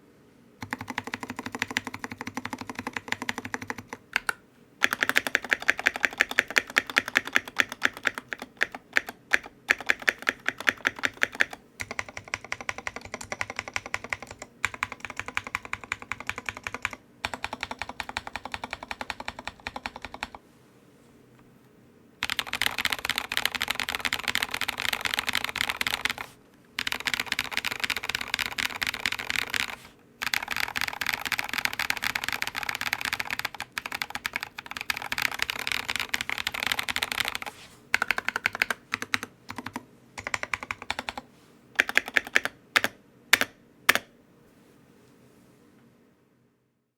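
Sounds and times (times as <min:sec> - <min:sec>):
typing on mechanical keyboard: 0:00.6 - 0:20.4, 0:22.2 - 0:44.1.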